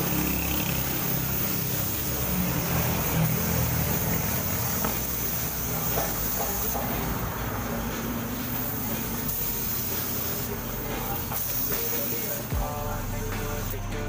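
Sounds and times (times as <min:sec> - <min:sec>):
air compressor motor hum: 0:00.0 - 0:14.0
compressor hiss: 0:00.0 - 0:14.0.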